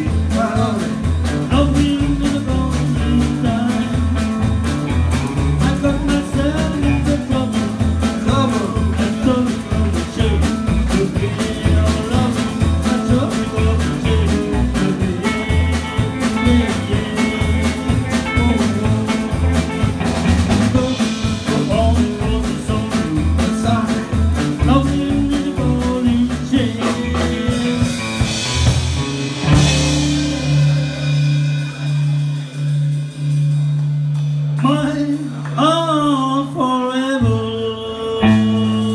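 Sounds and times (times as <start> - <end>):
man singing: 0.0 - 28.5, 34.6 - 38.9
plucked double bass: 0.0 - 34.7, 37.2 - 38.9
rock and roll band playing: 0.0 - 36.6, 37.2 - 38.9.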